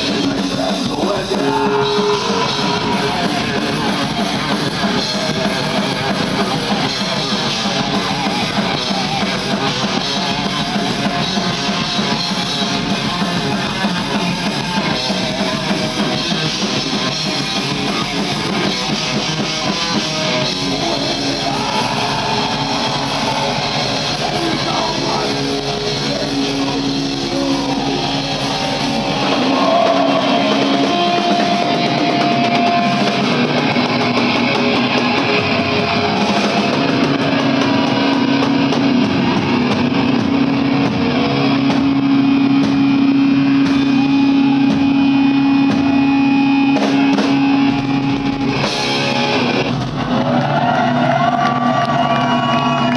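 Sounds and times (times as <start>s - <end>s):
heavy metal band playing live: 0.0s - 52.9s.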